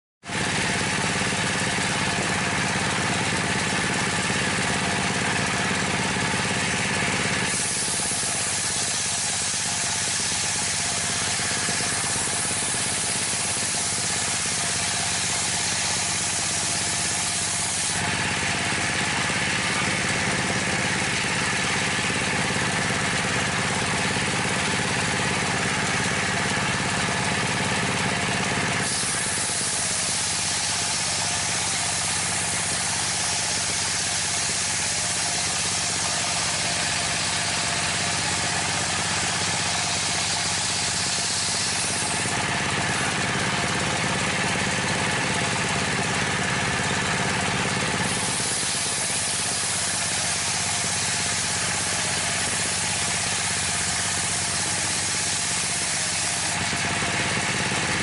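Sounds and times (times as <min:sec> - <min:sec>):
diesel engine running: 0:00.2 - 0:58.0
saw blade cutting plank: 0:00.2 - 0:58.0.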